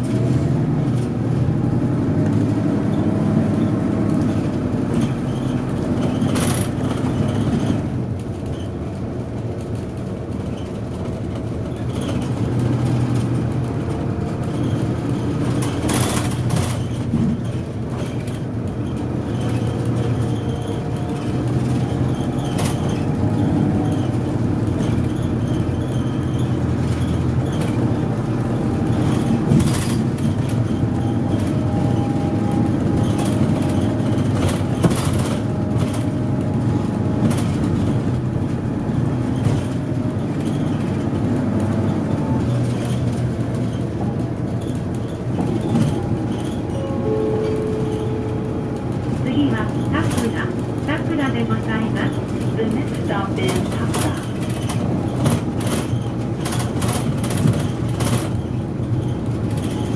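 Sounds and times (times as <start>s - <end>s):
bus engine drone: 0.0s - 59.9s
road noise: 0.0s - 59.9s.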